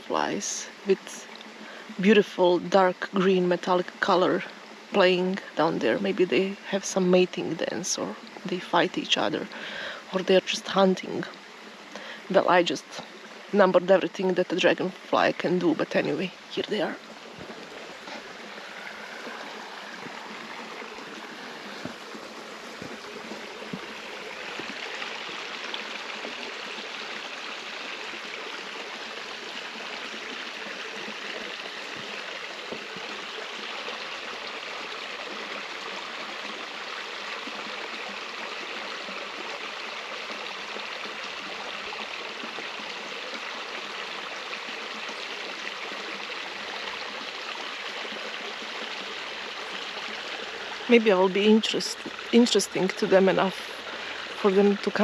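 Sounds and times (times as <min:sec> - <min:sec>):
stream flowing water: 0:00.0 - 0:55.0.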